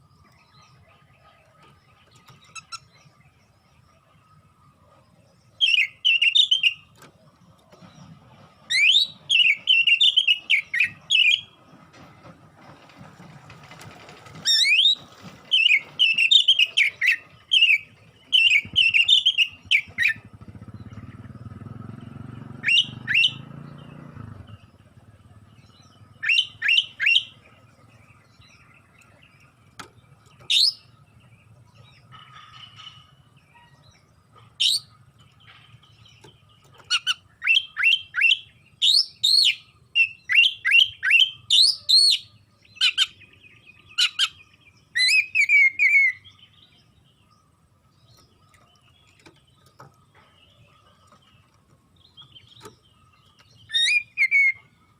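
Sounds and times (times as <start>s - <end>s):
magpie-robin singing: 0.3s - 3.3s, 5.5s - 7.1s, 7.8s - 11.6s, 14.5s - 21.1s, 22.6s - 23.9s, 25.5s - 47.4s, 48.0s - 54.9s.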